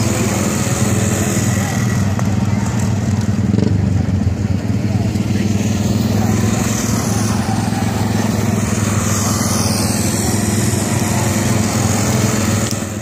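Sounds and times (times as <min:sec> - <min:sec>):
high whine of passing car: 0:00.0 - 0:13.0
racing car engines droning: 0:00.0 - 0:13.0.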